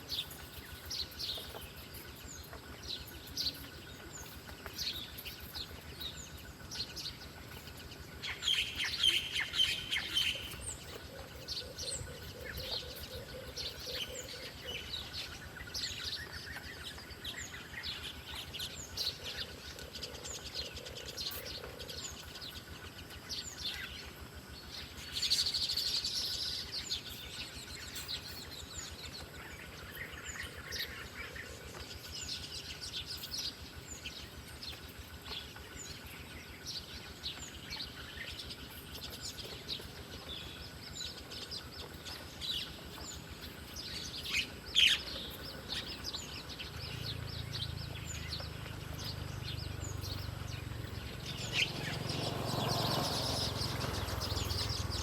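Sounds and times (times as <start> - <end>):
birds chirping: 0.0 - 55.0
steady low hum: 0.0 - 55.0.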